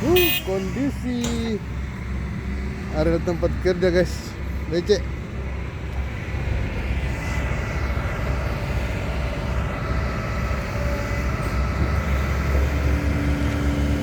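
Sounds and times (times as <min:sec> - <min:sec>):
heavy machinery engine rumble: 0:00.0 - 0:14.0.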